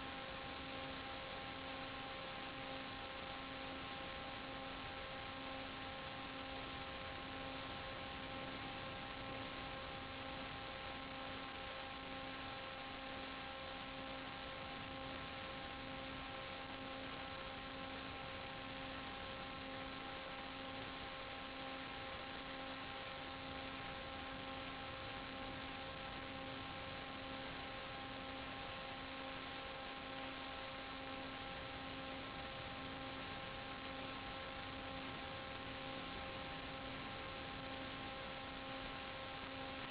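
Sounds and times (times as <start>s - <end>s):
electrical hum with pulsing tone: 0.0s - 39.9s.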